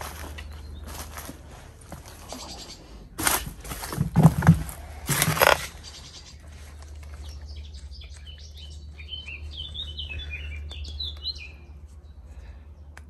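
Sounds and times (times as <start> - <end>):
songbird chirping: 0.0 - 4.0, 4.8 - 13.0.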